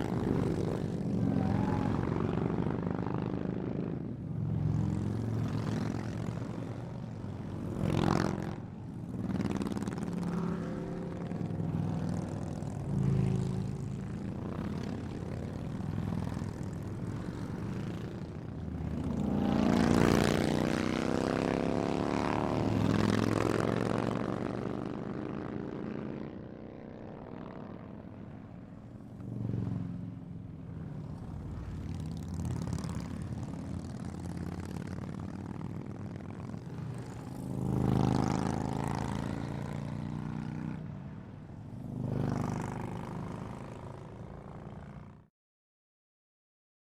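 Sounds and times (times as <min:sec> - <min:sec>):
motorcycles passing by fast: 0:00.0 - 0:45.3.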